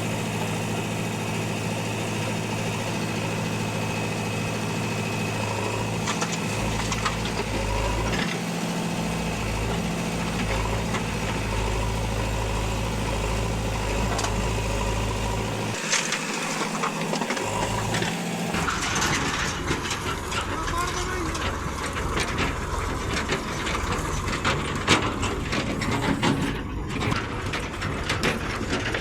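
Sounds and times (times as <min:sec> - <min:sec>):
diesel machinery engine running: 0:00.0 - 0:29.0.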